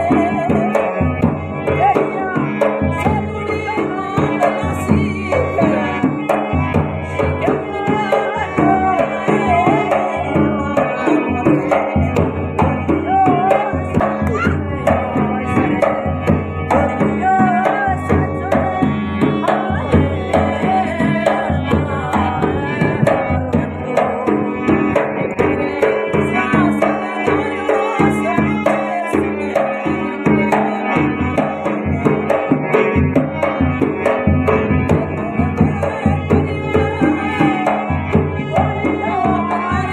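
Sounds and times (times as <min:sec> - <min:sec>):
hand drum beat: 0:00.0 - 0:39.9
instrumental accompaniment: 0:00.0 - 0:39.9
person singing folk song: 0:00.0 - 0:39.9.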